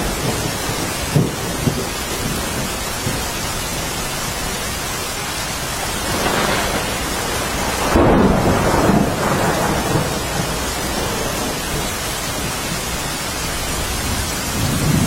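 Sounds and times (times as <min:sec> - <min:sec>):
heavy rain hissing: 0:00.0 - 0:15.0
thunder rumbling: 0:00.0 - 0:15.0.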